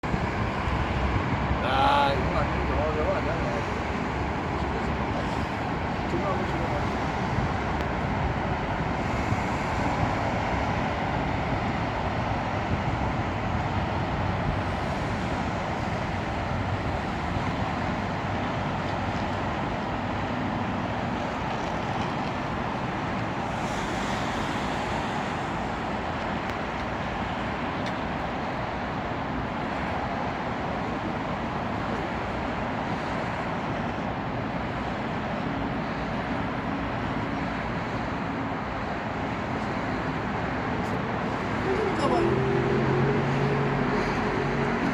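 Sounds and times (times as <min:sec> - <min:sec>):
road traffic hum: 0:00.0 - 0:44.9.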